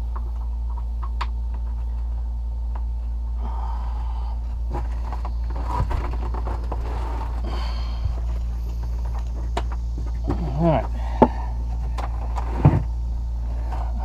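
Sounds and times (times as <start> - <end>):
motor and pump humming: 0.0 - 14.0.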